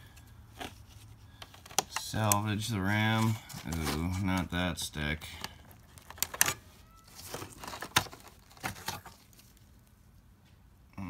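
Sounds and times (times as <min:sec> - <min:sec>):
rustling and crinkling: 0:00.0 - 0:10.6.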